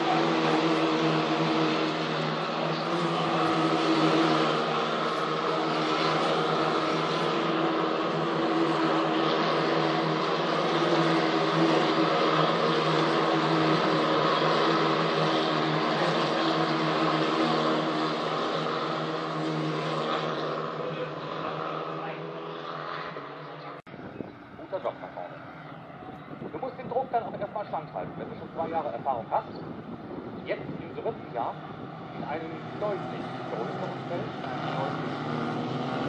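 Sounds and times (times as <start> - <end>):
race car engines droning: 0.0 - 36.0.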